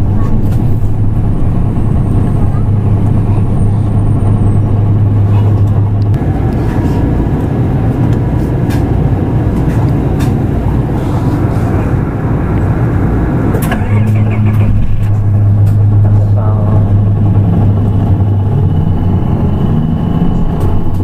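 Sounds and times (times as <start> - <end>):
bus diesel engine running: 0.0 - 21.0
road noise: 0.0 - 21.0.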